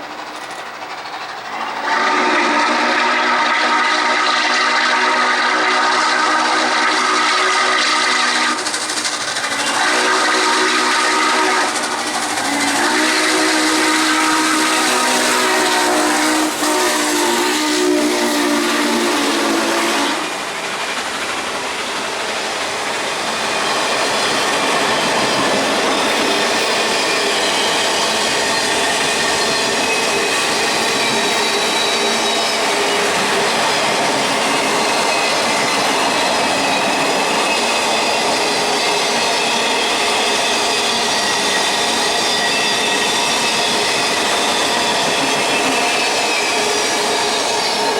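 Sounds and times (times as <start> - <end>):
train rumbling and clattering on rails: 0.0 - 47.9
steam locomotive chime whistle: 1.6 - 20.5, 23.1 - 47.9.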